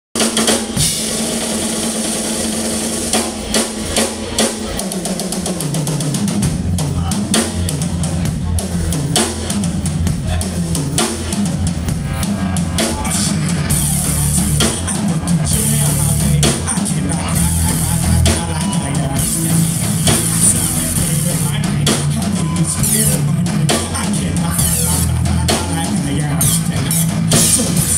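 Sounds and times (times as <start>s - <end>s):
drum kit with cymbal hits: 0.2s - 27.9s
live rock band playing: 0.2s - 27.9s
low bass notes: 0.4s - 27.9s.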